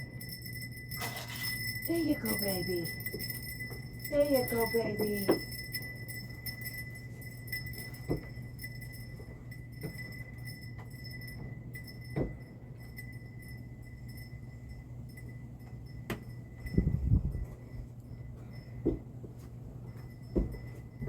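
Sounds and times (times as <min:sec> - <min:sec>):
light clinks and taps: 0:00.0 - 0:21.0
steady low hum: 0:00.0 - 0:21.0.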